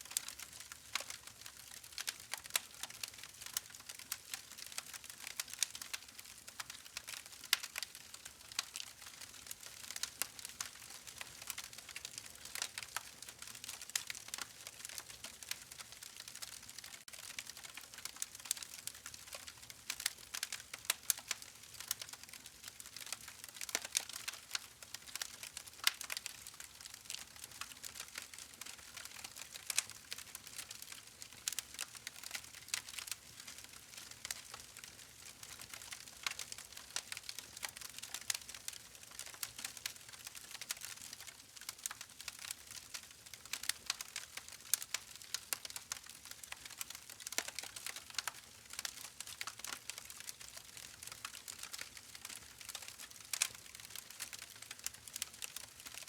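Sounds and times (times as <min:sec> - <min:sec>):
campfire crackling and popping: 0:00.1 - 0:56.0.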